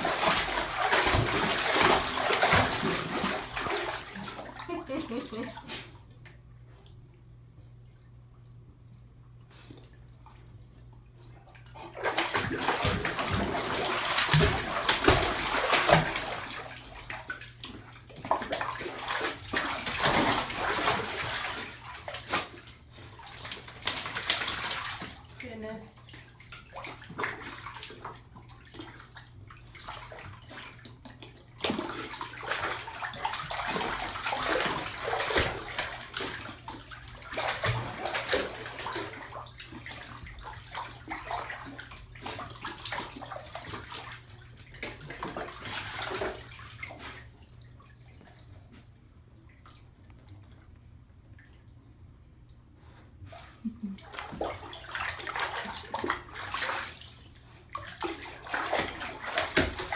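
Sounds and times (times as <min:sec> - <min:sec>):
bathwater sloshing and splashing: 0:00.0 - 0:59.9.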